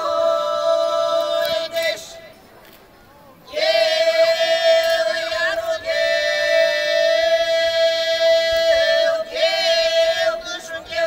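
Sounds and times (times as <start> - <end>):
women's group singing a cappella: 0.0 - 2.3, 3.5 - 11.0.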